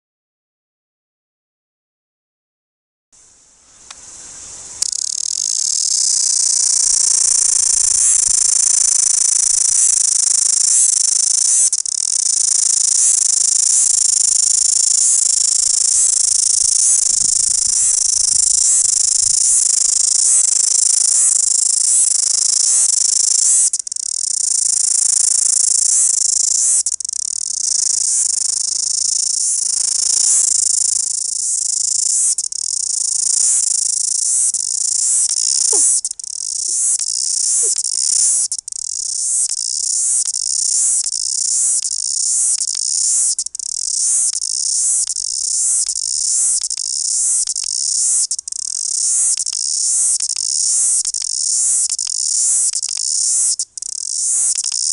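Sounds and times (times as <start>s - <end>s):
cicada buzzing: 4.8s - 54.9s.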